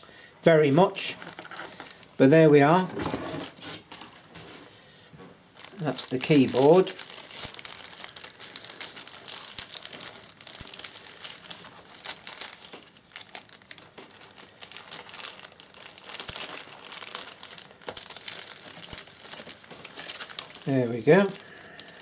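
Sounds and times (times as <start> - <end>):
plastic wrapping crinkling: 0.8 - 22.0.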